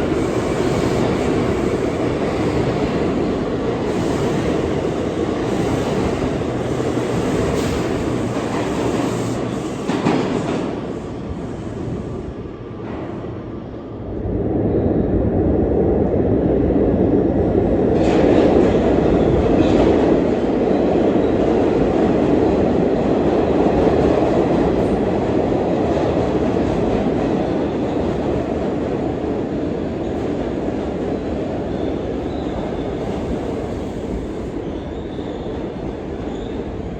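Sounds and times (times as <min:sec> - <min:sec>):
subway train rumbling: 0:00.0 - 0:36.9.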